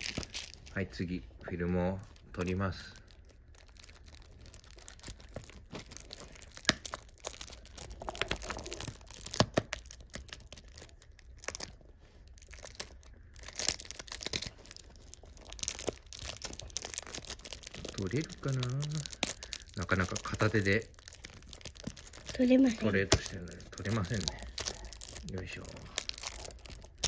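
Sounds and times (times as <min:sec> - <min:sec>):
plastic wrapping film crinkling: 0:00.0 - 0:27.0
plastic film snapping: 0:02.4 - 0:11.8, 0:12.4 - 0:27.0.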